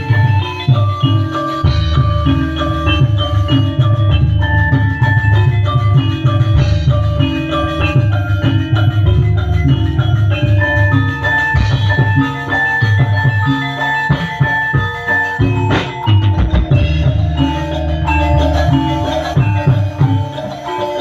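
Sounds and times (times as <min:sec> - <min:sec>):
loud drum beat: 0:00.0 - 0:21.0
metallophone melody: 0:00.0 - 0:21.0.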